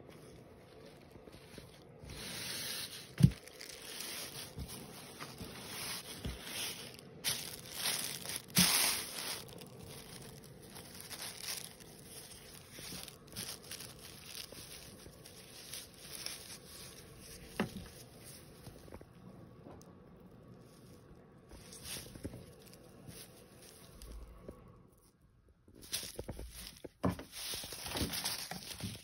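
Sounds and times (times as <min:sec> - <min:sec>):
fabric and plastic bag crinkling: 0:00.0 - 0:19.2, 0:20.5 - 0:29.0.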